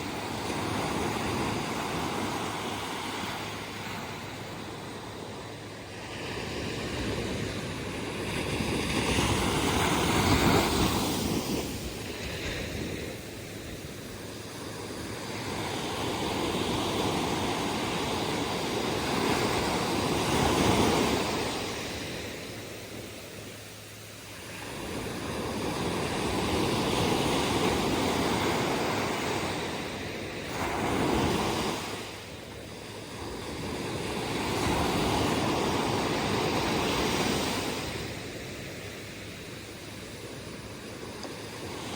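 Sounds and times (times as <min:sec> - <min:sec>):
waves breaking on beach: 0:00.0 - 0:41.9.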